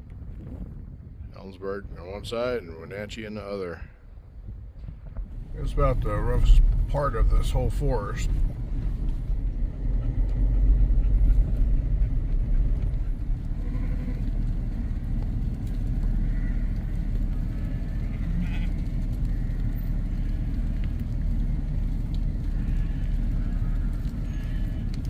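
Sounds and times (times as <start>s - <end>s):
vehicle engine and tyres rumbling: 0.0s - 25.0s.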